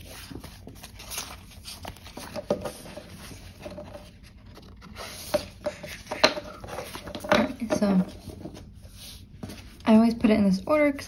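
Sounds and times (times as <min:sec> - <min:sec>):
paper rustling: 0:00.0 - 0:09.9.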